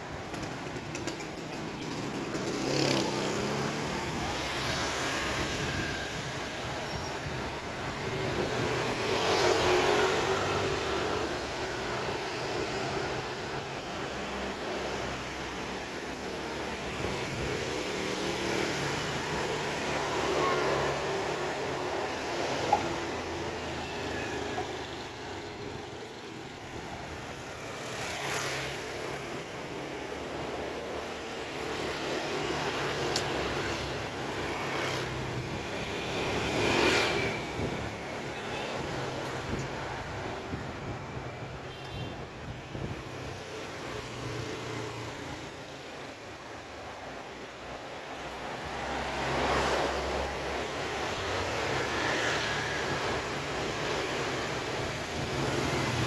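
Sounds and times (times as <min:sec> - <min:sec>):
motor traffic rumbling: 0:00.0 - 0:56.0
street noise: 0:00.0 - 0:56.0
vehicles passing: 0:00.0 - 0:56.0.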